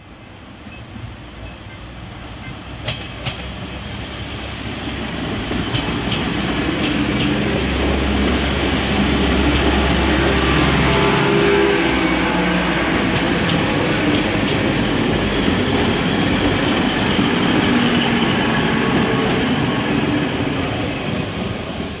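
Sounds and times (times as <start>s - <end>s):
train wheels rumbling on rails: 0.6s - 22.0s.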